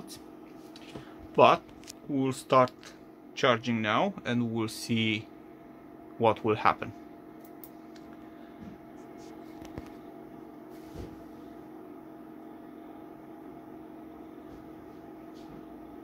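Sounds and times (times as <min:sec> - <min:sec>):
electrical equipment humming: 0:00.0 - 0:16.0.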